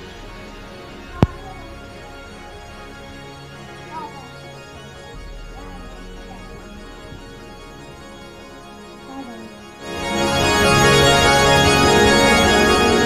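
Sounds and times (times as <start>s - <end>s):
background music with sustained chords: 0.0s - 13.0s.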